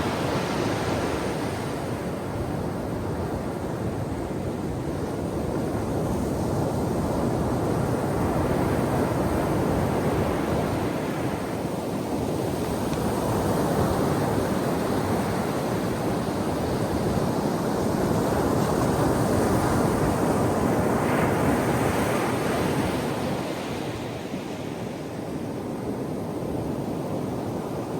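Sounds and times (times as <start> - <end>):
ocean waves breaking on beach: 0.0 - 27.9.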